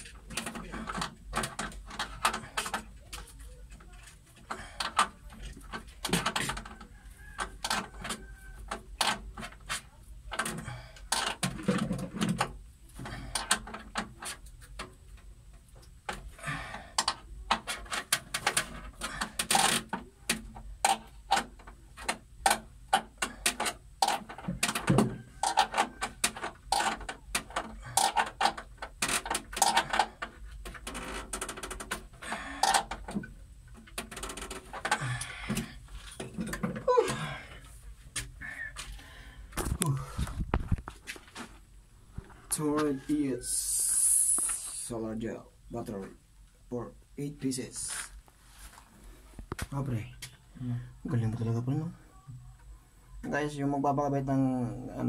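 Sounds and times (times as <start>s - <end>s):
irregular clicking and knocking: 0.0s - 43.2s, 48.0s - 53.4s.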